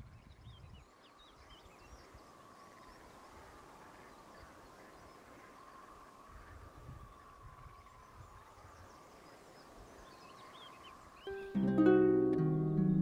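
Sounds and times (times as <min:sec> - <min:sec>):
low wind rumble: 0:00.0 - 0:11.4.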